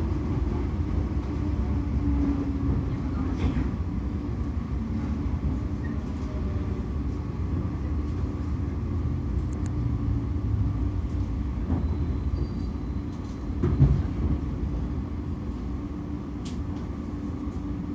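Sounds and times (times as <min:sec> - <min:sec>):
train low rumble: 0:00.0 - 0:17.9.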